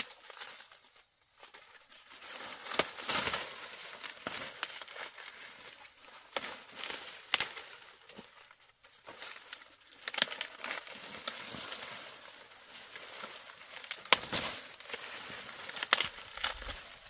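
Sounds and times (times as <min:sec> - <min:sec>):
dry material rustling and crinkling: 0:00.0 - 0:17.0.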